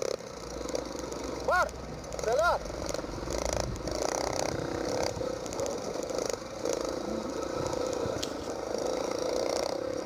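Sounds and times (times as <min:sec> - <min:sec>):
motocross bike engine running: 0:00.0 - 0:10.0.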